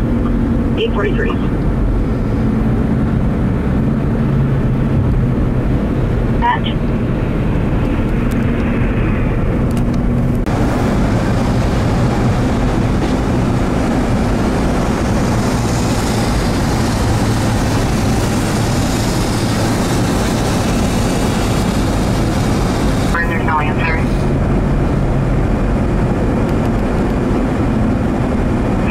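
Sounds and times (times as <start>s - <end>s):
vehicle engine and road noise: 0.0s - 28.9s.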